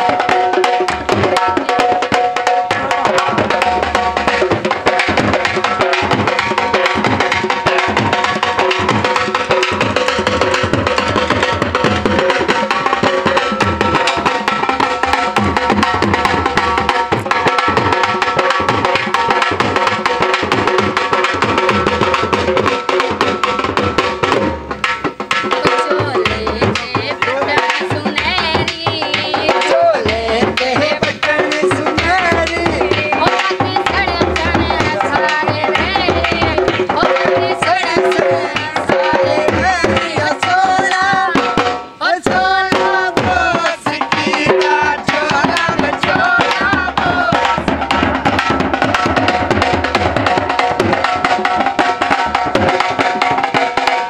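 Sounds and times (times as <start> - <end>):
dhol drum beating fast rhythm: 0.0 - 54.0.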